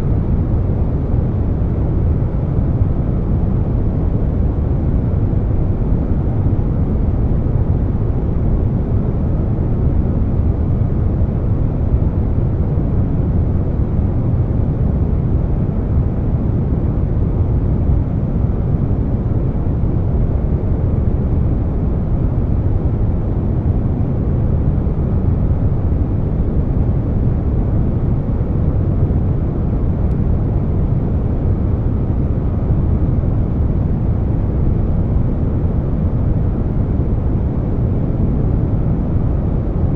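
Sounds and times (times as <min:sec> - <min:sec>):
air conditioner running: 0:00.0 - 0:39.9
brown noise: 0:00.0 - 0:39.9.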